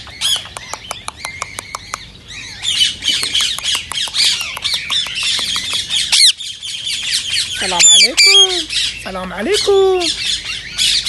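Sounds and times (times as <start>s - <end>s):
parakeet chattering and squawking: 0.0s - 11.0s.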